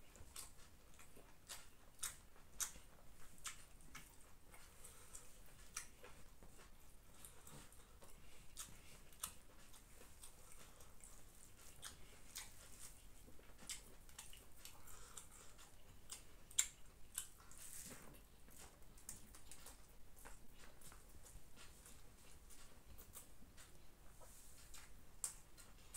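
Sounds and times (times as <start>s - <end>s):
chewing: 0.0s - 25.9s.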